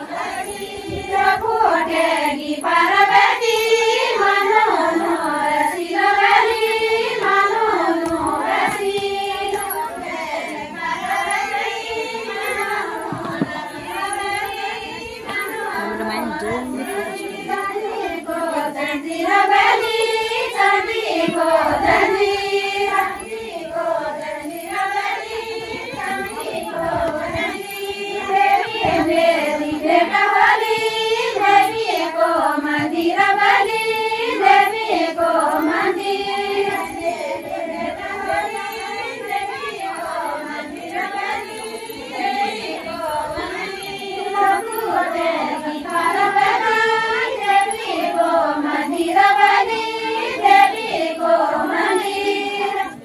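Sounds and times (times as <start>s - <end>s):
women singing folk song: 0.0s - 53.0s.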